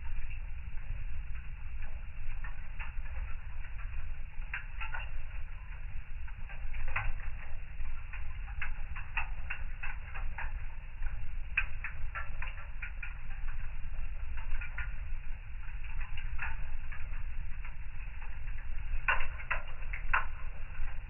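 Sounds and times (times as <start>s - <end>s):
low rumble of fire: 0.0s - 21.0s
wood fire crackling: 0.0s - 21.0s.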